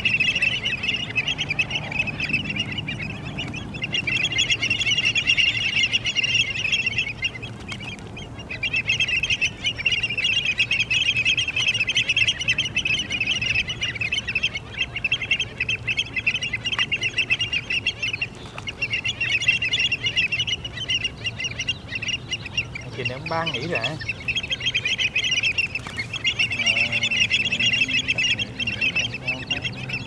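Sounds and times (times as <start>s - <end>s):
flock of birds chattering: 0.0s - 30.0s.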